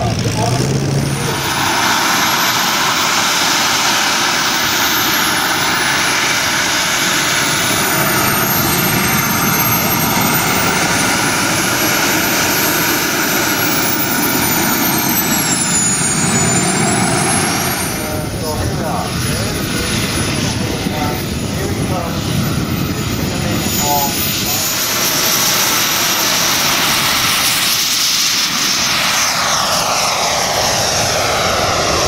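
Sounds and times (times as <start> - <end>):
high wavering turbine whines: 0.0 - 32.0
jet turbines rushing hiss: 0.0 - 32.0.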